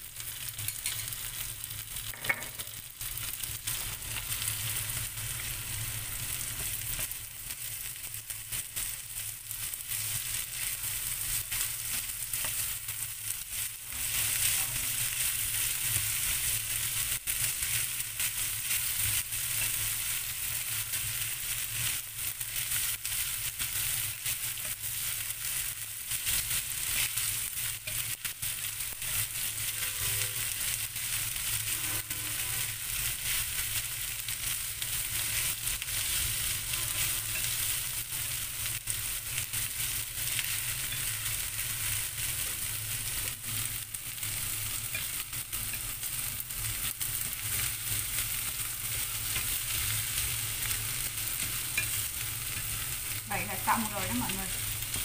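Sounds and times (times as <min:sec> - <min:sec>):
vegetables sizzling in a pan: 0:00.0 - 0:55.0.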